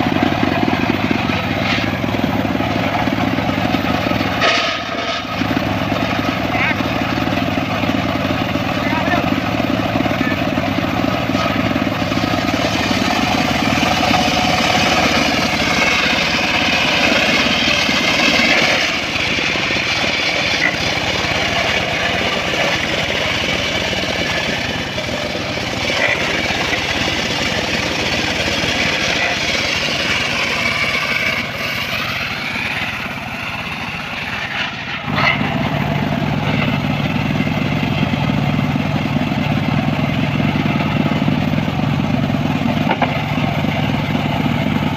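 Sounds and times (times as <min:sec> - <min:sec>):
circular saw cutting wood: 0:00.0 - 0:44.9.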